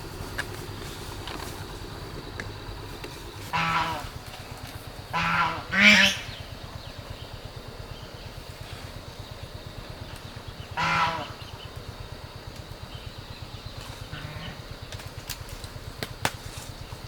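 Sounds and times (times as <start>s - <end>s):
geese honking: 0.0s - 15.4s.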